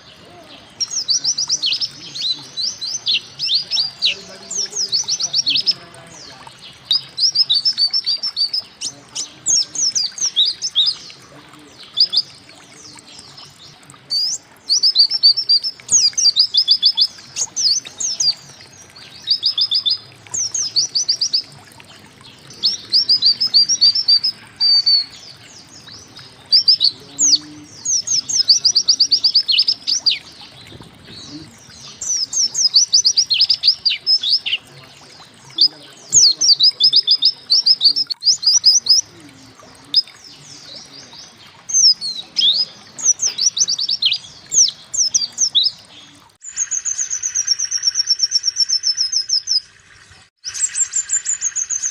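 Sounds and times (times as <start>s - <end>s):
white-eye bird singing: 0.0s - 51.9s.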